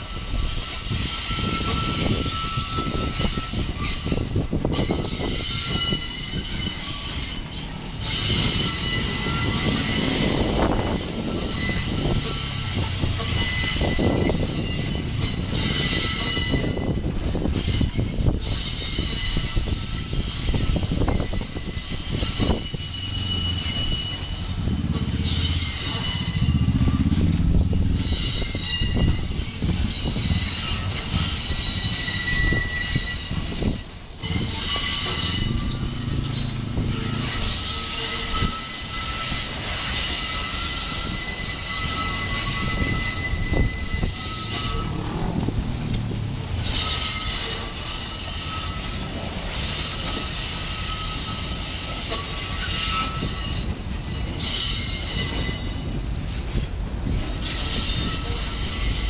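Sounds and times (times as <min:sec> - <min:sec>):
train low rumble: 0:00.0 - 0:59.0
train wheels squealing: 0:00.0 - 0:59.0.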